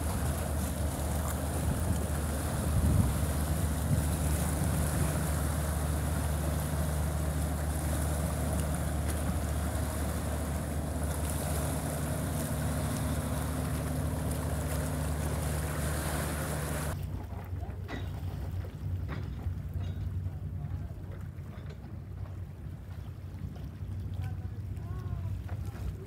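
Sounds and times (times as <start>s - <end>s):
boat engine humming: 0.0s - 26.0s
water noise: 0.0s - 26.0s
wind: 0.0s - 26.0s.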